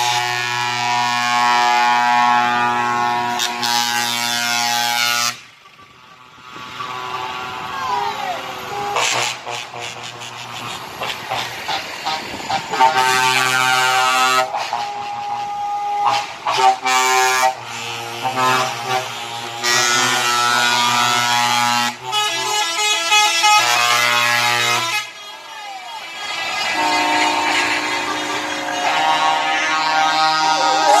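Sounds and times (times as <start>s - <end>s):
truck air horns blowing: 0.0s - 5.8s, 6.6s - 31.0s.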